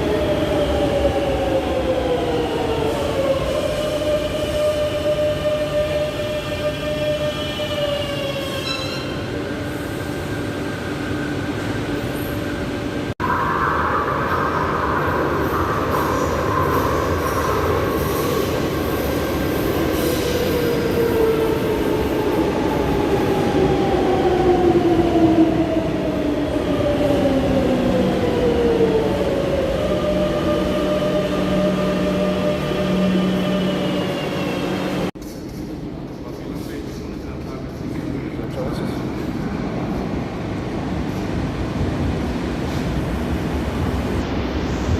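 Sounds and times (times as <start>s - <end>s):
steady train hum: 0.0s - 44.9s.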